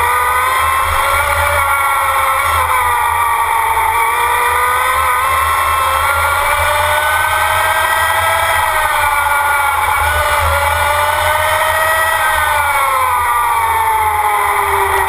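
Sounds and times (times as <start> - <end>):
race car drivetrain whine: 0.0 - 15.0
road rumble: 0.0 - 15.0.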